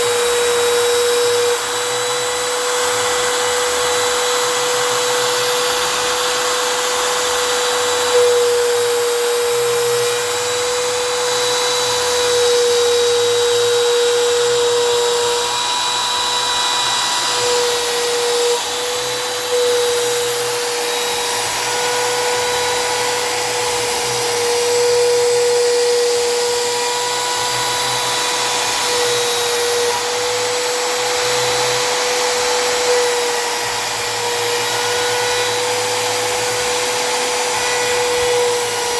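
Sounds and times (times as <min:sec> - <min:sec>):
router spindle whine cutting plastic: 0:00.0 - 0:38.9.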